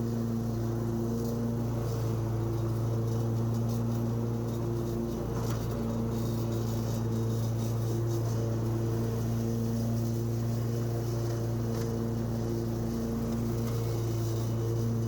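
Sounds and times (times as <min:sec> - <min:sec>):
mower engine running: 0:00.0 - 0:15.0.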